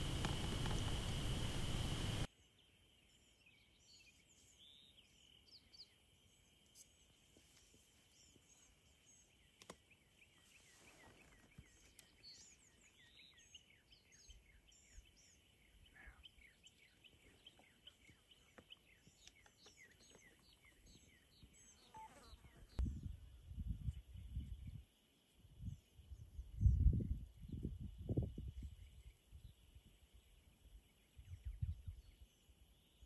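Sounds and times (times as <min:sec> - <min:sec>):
faint bird chirps: 0:00.0 - 0:33.0
faint insect hum: 0:00.0 - 0:33.0.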